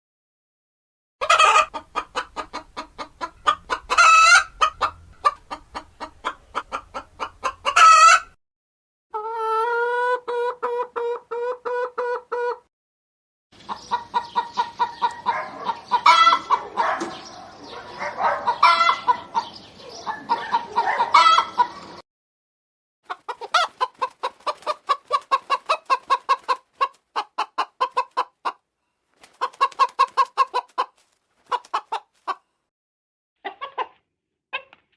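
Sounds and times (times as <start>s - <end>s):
hens clucking: 1.2s - 8.4s, 9.1s - 12.7s, 13.6s - 22.0s, 23.1s - 28.6s, 29.2s - 32.4s, 33.4s - 34.0s.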